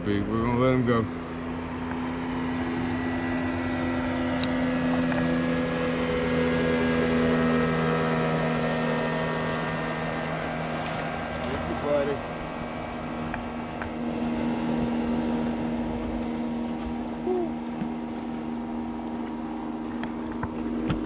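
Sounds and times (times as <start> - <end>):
motorboat engine running: 0.0 - 21.0.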